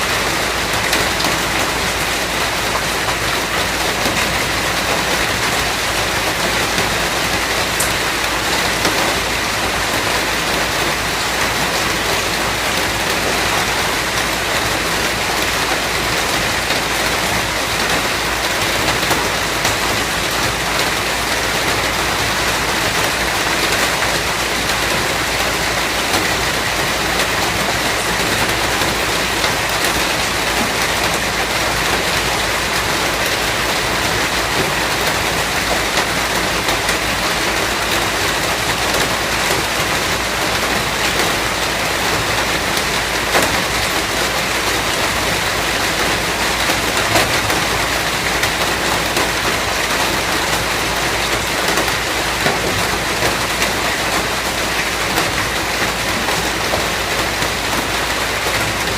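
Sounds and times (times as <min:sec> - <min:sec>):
steady dense rain: 0:00.0 - 0:58.9.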